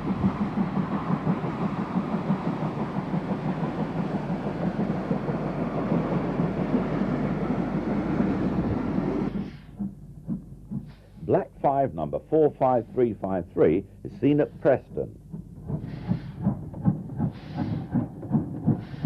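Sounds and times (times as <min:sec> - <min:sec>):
steam train rumbling: 0:00.0 - 0:19.0.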